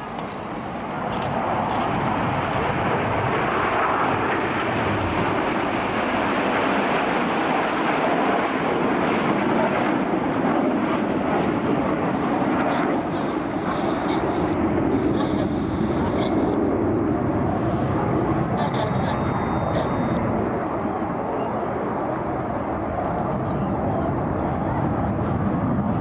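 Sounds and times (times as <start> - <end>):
jet engines flying overhead: 0.0 - 26.0.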